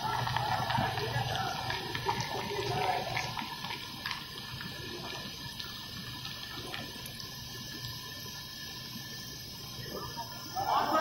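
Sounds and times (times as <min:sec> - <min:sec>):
molten metal pouring: 0:00.0 - 0:11.0.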